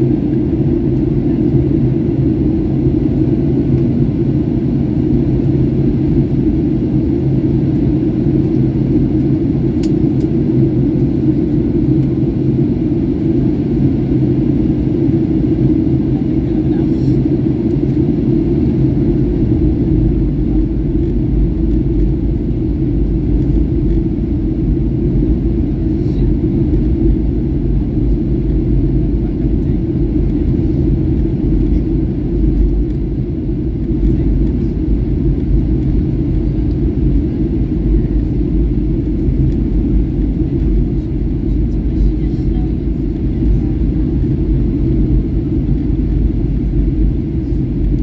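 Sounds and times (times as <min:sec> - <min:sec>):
airplane cabin engine rumble: 0:00.0 - 0:48.0.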